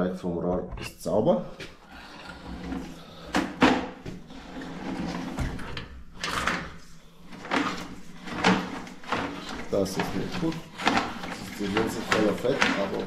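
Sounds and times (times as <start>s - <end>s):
cable scraping in pipe: 1.6s - 3.4s, 4.2s - 13.0s.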